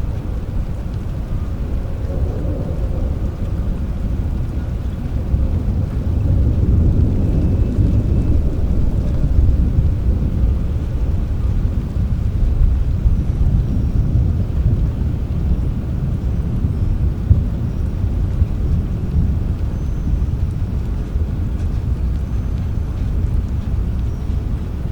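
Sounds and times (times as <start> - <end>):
distant thunder rumbling: 0.0 - 24.9
steady rain: 0.0 - 24.9.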